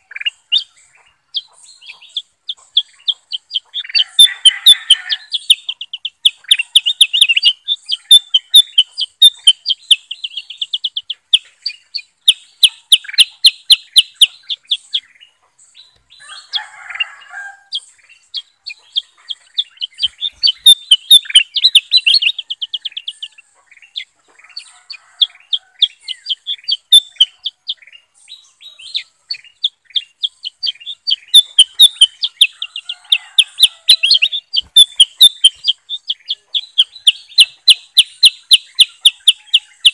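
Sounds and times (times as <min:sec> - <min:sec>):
birds singing high chirps: 0:00.0 - 0:39.9.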